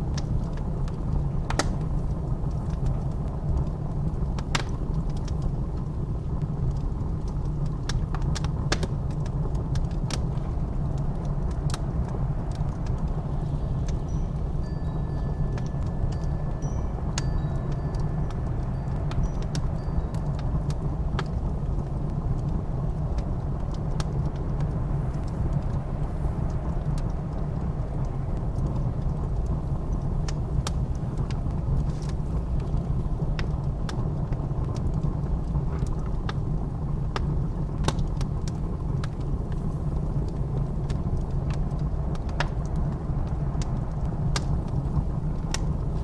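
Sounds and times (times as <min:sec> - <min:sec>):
blizzard wind rumble: 0:00.0 - 0:46.0
wood fire crackling and popping: 0:00.0 - 0:46.0.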